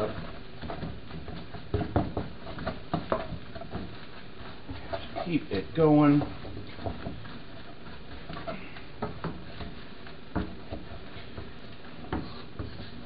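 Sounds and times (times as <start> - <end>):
noodles frying hiss: 0.0 - 13.0
utensil scraping a frying pan: 0.0 - 13.0.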